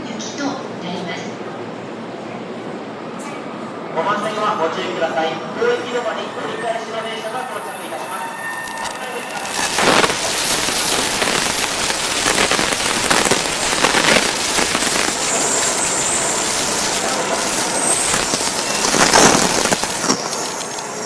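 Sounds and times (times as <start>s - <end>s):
high-speed train rushing: 0.0s - 21.0s
faint high whine: 4.0s - 21.0s.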